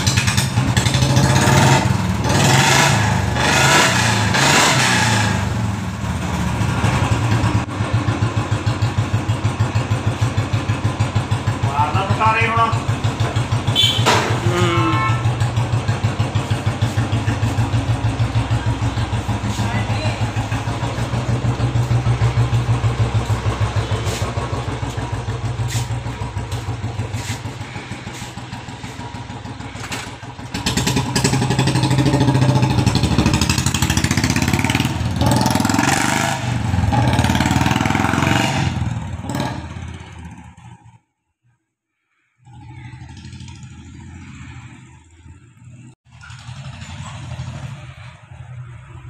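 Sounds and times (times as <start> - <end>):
motorcycle engine idling and revving: 0.0 - 41.5, 42.1 - 49.0.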